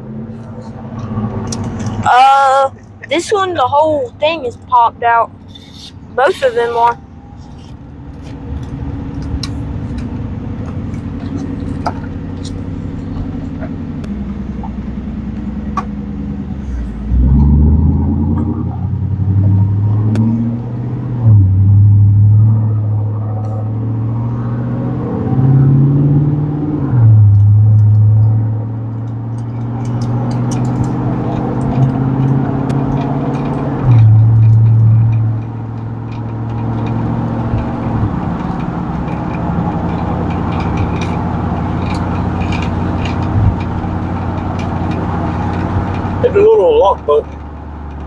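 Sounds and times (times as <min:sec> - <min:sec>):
truck engine pulling hard: 0:00.0 - 0:48.0.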